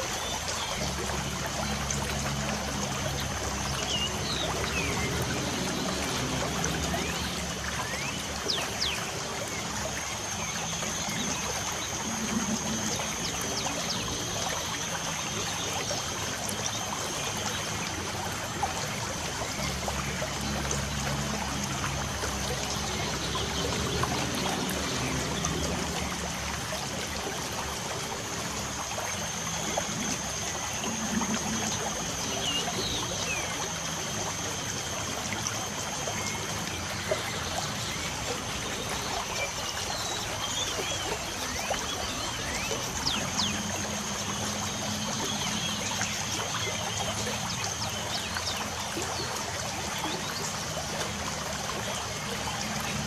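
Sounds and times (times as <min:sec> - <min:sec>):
light rain dripping: 0:00.0 - 0:53.0.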